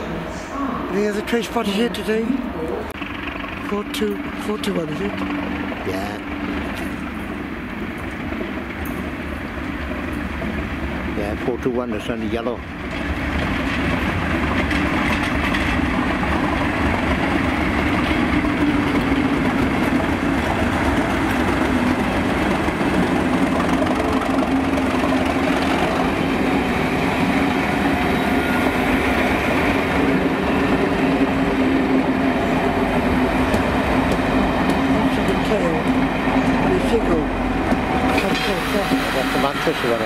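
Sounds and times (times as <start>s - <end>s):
diesel locomotive engine: 0.0s - 40.0s
train wheels rolling on rails: 0.0s - 40.0s.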